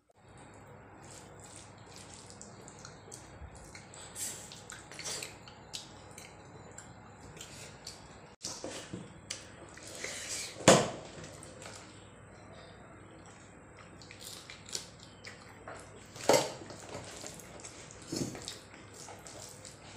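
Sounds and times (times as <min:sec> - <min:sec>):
wet squelching hand mixing food: 0:00.2 - 0:12.2, 0:13.0 - 0:19.9
chewing: 0:00.3 - 0:10.6, 0:13.1 - 0:19.9.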